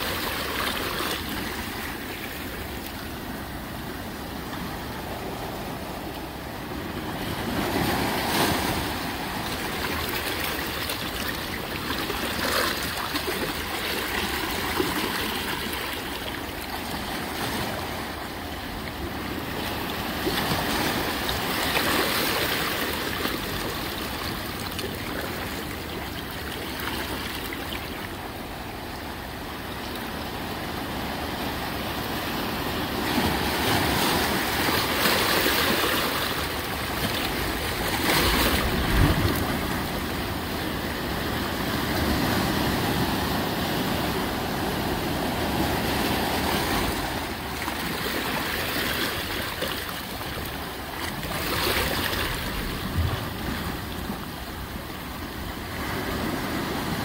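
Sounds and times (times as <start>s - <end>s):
ocean surf breaking: 0.0s - 26.2s, 28.9s - 57.0s.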